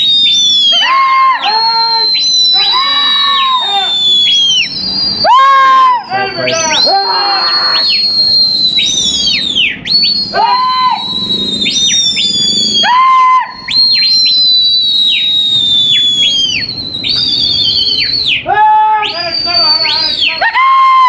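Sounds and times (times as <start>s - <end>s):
people whistling loudly: 0.0s - 21.0s.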